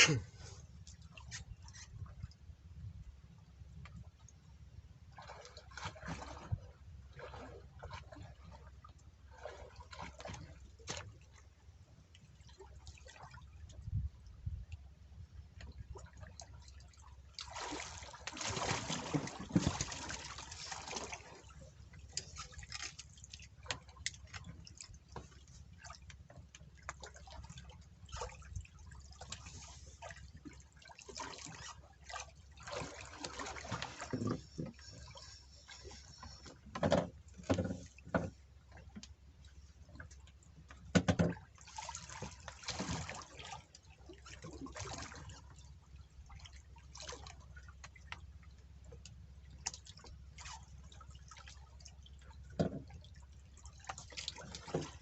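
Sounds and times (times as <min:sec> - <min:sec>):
water sloshing and splashing: 0:00.0 - 0:55.0.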